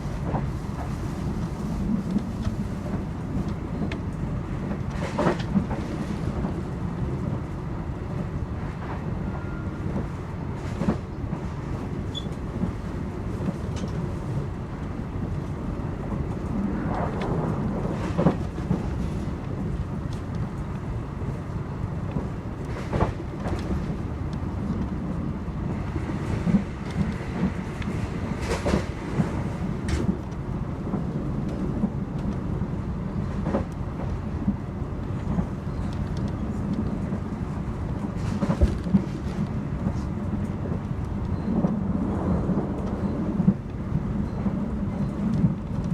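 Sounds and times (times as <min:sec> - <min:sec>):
train rumbling on board: 0:00.0 - 0:45.9.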